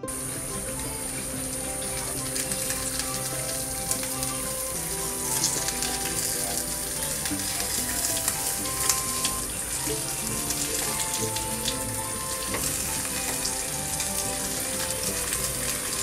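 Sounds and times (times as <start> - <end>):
soft background music: 0.0 - 16.0
omelette sizzling in a frying pan: 0.1 - 16.0.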